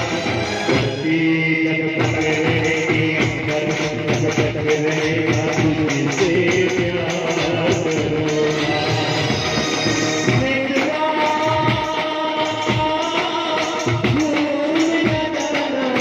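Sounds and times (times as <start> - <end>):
held melody line: 0.0 - 16.0
steady percussion beat: 0.0 - 16.0.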